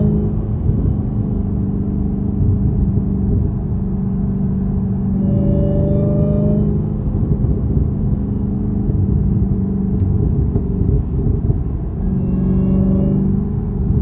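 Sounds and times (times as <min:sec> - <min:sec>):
car engine deep rumble: 0:00.0 - 0:14.0
supercharger whine: 0:00.0 - 0:14.0.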